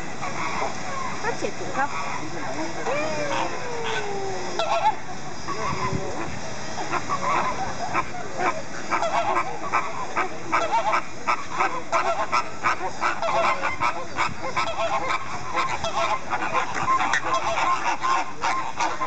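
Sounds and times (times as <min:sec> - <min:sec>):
flamingos honking: 0:00.0 - 0:19.0.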